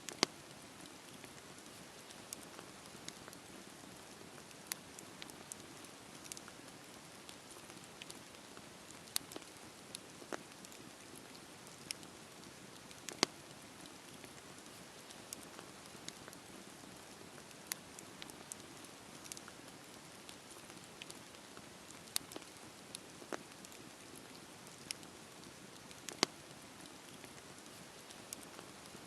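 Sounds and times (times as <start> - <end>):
campfire crackling and popping: 0.0 - 29.0
campfire hiss: 0.0 - 29.0.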